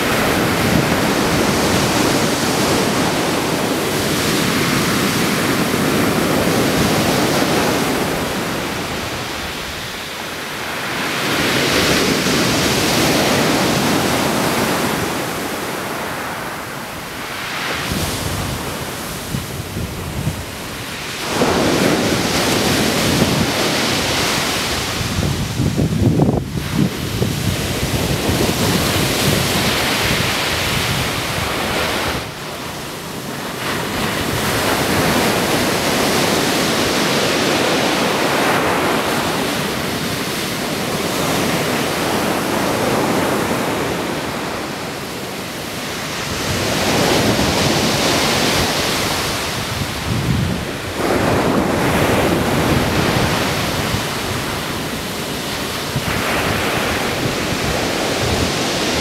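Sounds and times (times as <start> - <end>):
surf breaking on beach: 0.0 - 59.0
wind buffeting microphone: 0.0 - 59.0.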